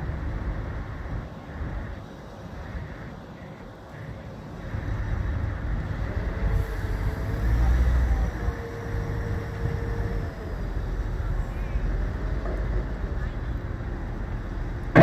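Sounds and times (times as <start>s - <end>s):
crane diesel engine rumbling: 0.0s - 15.0s
faint steady whine: 0.0s - 15.0s.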